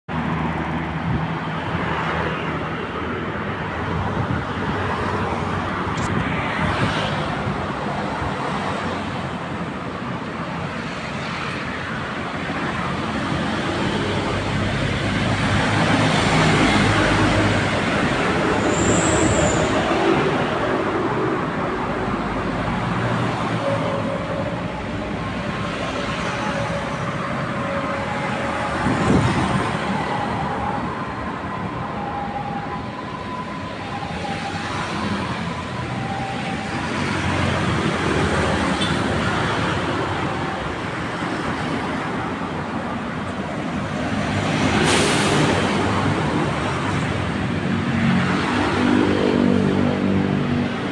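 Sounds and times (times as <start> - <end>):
road traffic passing: 0.1 - 50.9.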